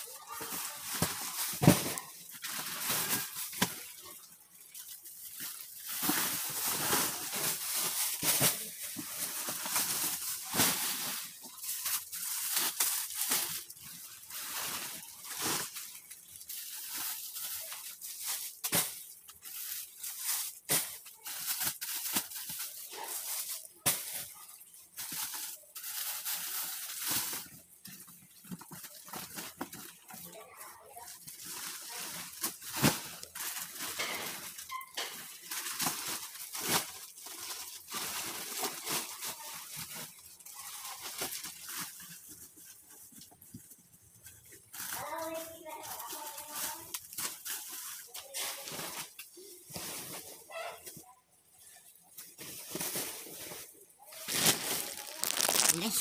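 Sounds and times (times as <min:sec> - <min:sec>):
plastic sacks rustling and crinkling: 0:00.0 - 0:56.0.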